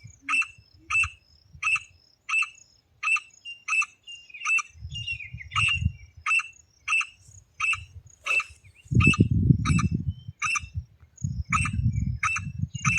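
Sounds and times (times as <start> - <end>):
partridge call: 0.2 - 10.8.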